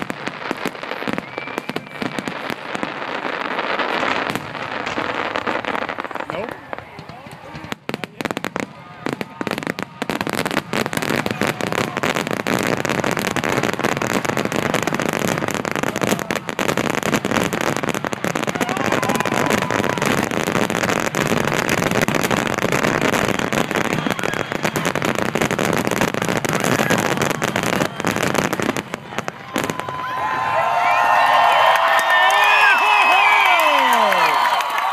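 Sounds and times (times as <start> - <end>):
fireworks barrage: 0.0 - 34.9.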